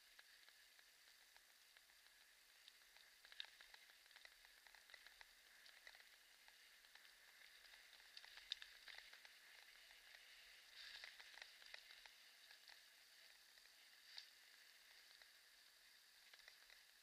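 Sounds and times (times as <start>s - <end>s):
faint steady hiss: 0.0s - 17.0s
small ticks and crackles: 0.0s - 17.0s.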